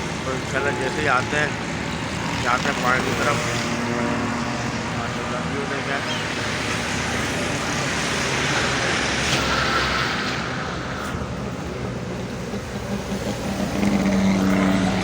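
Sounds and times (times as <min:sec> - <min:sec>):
nearby vehicle engine humming: 0:00.0 - 0:15.0
road traffic passing: 0:00.0 - 0:15.0.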